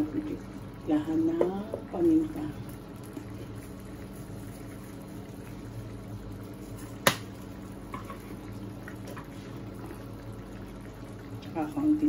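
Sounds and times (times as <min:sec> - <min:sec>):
faint hum: 0:00.0 - 0:12.0
food simmering in a frying pan: 0:00.0 - 0:12.0.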